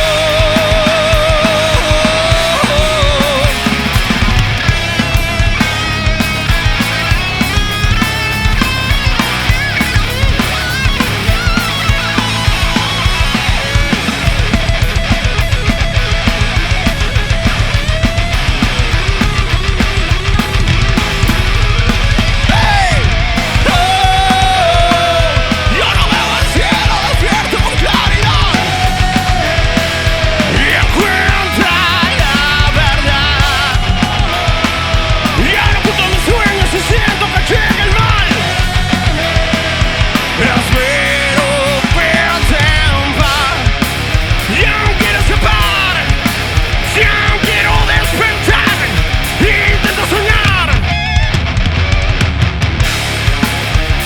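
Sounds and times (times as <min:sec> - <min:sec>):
live rock band playing: 0:00.0 - 0:54.0
wavering lead guitar line: 0:00.0 - 0:54.0.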